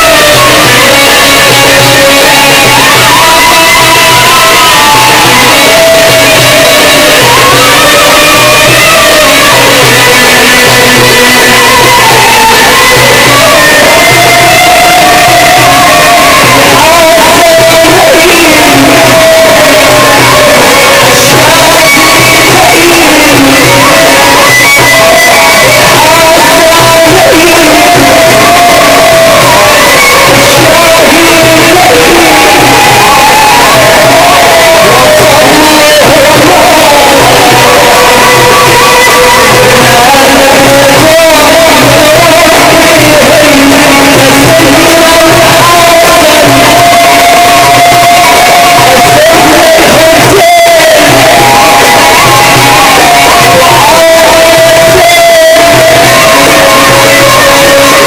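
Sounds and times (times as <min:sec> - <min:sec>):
instrumental accompaniment: 0:00.0 - 0:58.0
man chanting amplified: 0:00.0 - 0:58.0
man singing through a pa: 0:00.0 - 0:58.0.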